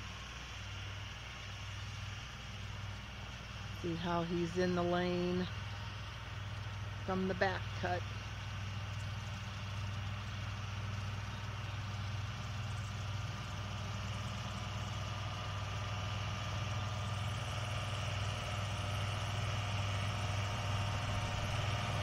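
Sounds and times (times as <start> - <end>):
diesel tractor running: 0.0 - 22.0.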